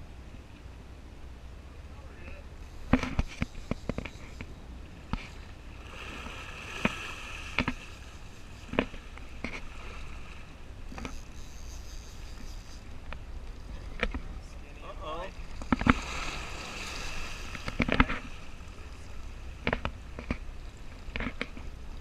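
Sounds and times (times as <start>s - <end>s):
boat engine low rumble: 0.0s - 22.0s.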